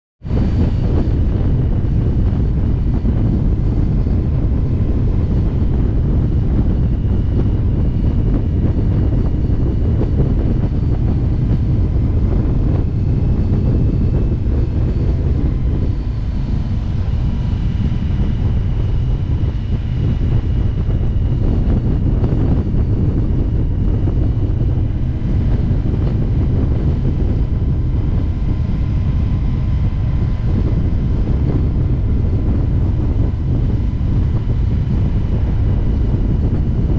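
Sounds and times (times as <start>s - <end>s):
faint steady whines: 0.2s - 36.9s
motorcycle engine rumble: 0.2s - 36.9s
wind rush on microphone: 0.2s - 36.9s.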